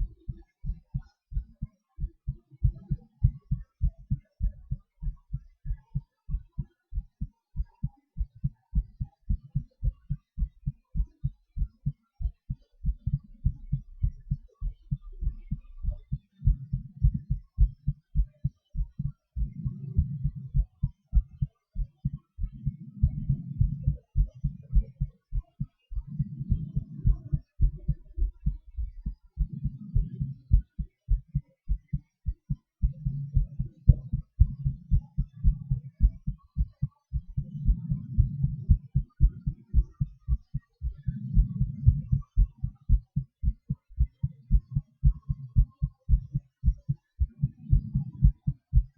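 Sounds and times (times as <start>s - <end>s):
fast heartbeat: 0.0s - 48.9s.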